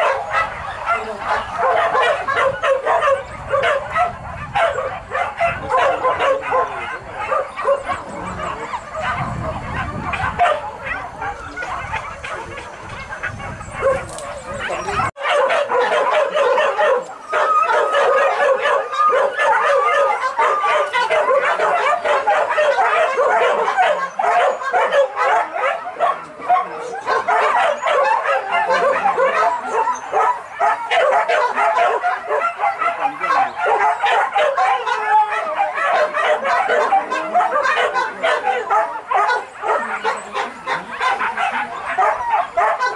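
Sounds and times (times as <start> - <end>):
dogs yelping and barking: 0.0 - 42.9.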